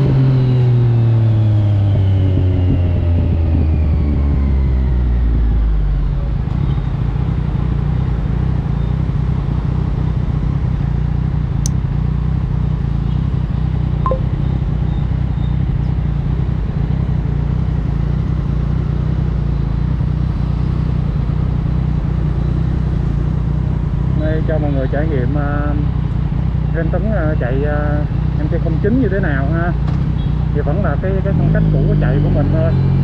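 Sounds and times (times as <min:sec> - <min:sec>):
motorcycle engine running steadily: 0:00.0 - 0:33.0.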